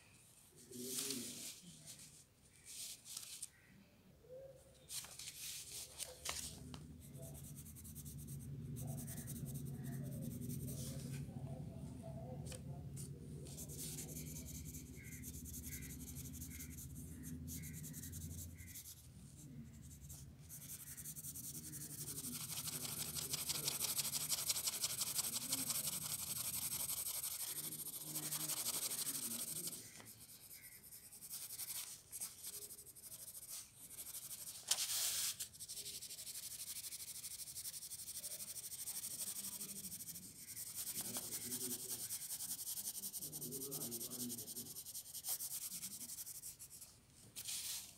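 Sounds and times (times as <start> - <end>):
pencil scratching on paper: 6.4 - 11.2, 12.4 - 47.8.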